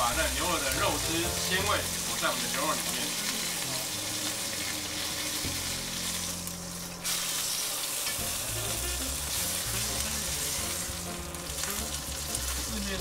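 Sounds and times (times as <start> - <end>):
steak sizzling in fat: 0.0 - 13.0.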